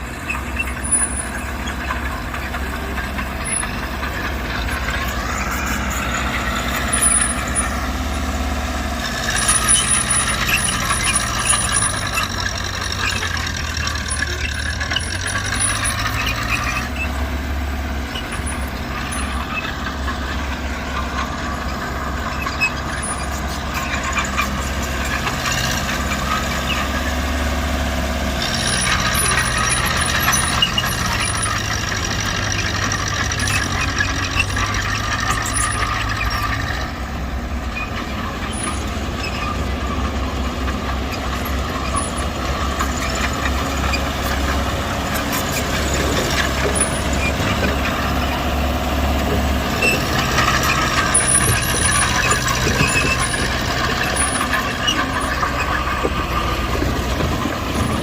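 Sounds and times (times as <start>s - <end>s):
diesel machinery engine: 0.0s - 58.0s.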